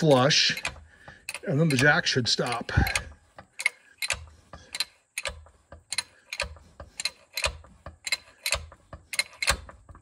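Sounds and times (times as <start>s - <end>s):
hydraulic jack clicking: 0.0s - 10.0s.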